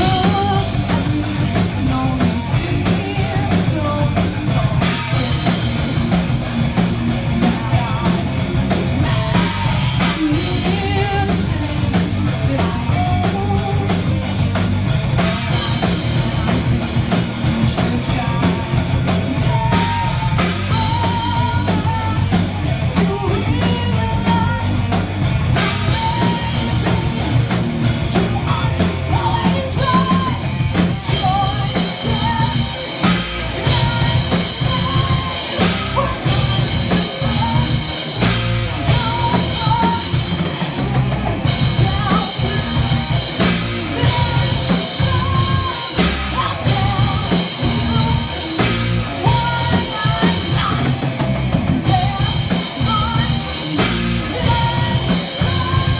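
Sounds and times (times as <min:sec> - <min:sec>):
metal band playing live: 0:00.0 - 0:55.9
pounding drum kit: 0:00.0 - 0:55.9.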